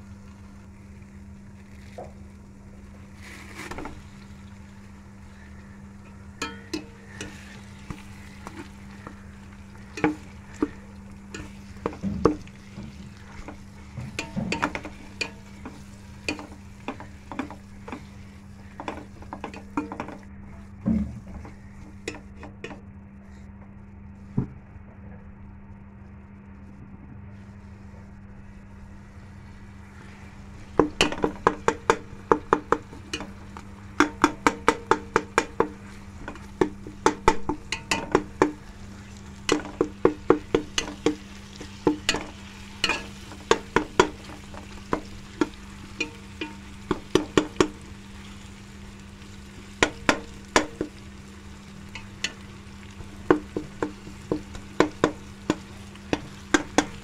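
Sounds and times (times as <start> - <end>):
oil sizzling: 0.0 - 22.8, 28.4 - 57.0.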